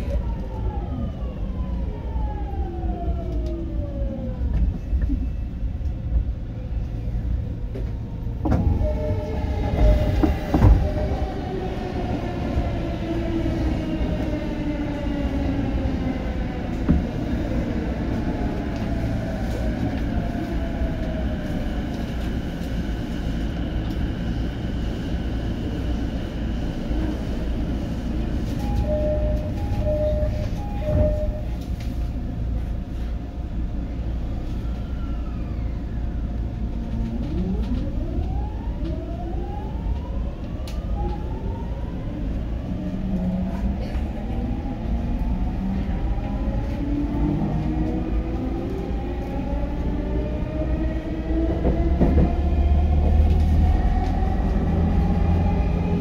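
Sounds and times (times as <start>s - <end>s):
train wheels rumbling on track: 2.2s - 56.0s.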